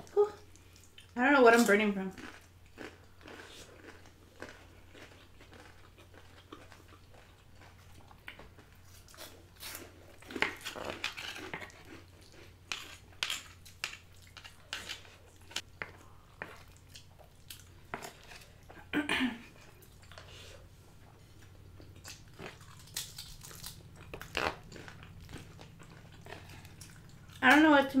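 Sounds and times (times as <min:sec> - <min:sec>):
low steady hum: 0:00.0 - 0:28.0
wet chewing and smacking: 0:02.2 - 0:18.8, 0:21.0 - 0:27.6.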